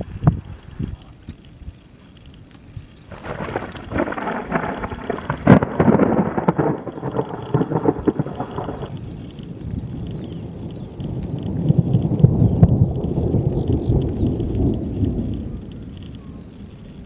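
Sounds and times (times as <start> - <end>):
crackling thunder: 0.0 - 17.0.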